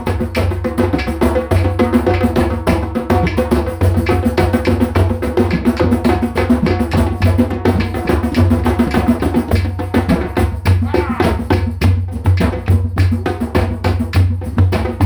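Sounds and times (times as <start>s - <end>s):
percussion-driven music: 0.0s - 15.0s.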